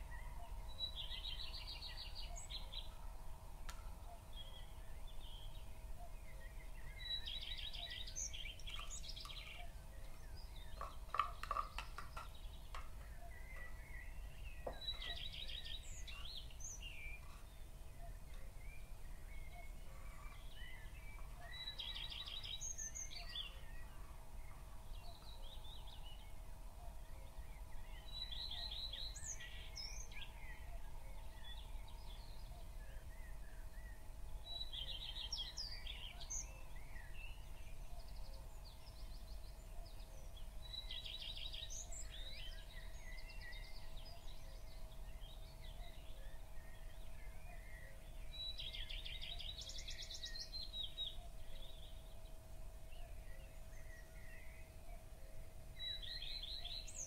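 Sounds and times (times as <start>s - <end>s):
bird trilling song: 0.0s - 57.0s
faint steady hum: 0.0s - 57.0s.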